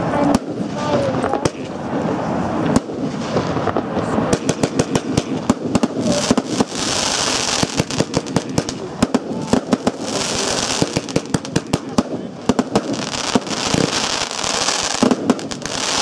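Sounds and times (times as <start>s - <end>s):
fireworks bangs: 0.0s - 16.0s
fireworks hiss: 0.0s - 16.0s.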